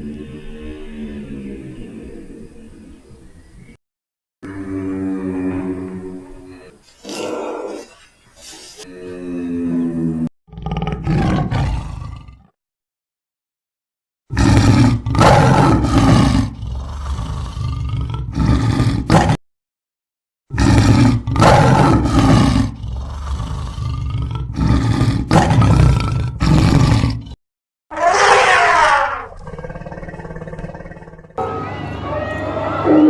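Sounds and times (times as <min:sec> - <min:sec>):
large animal roaring: 0:00.0 - 0:03.2, 0:04.5 - 0:07.9, 0:08.8 - 0:12.6, 0:14.3 - 0:19.2, 0:20.5 - 0:33.0.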